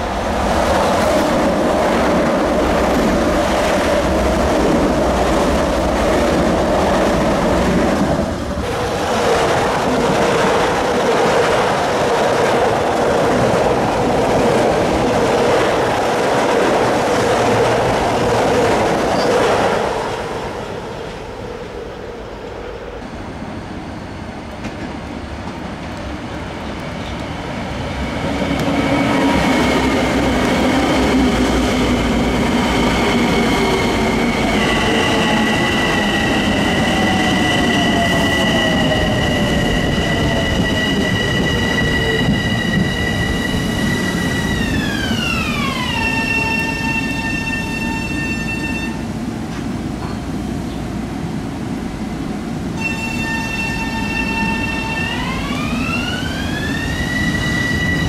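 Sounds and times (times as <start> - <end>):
electric train passing at speed: 0.0 - 58.0
high electric whine of train: 0.0 - 58.0.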